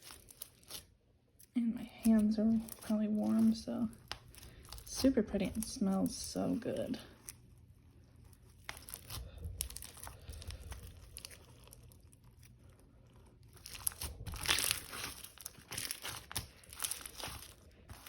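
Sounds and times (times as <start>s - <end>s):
slime crackling and tearing: 0.0s - 18.0s.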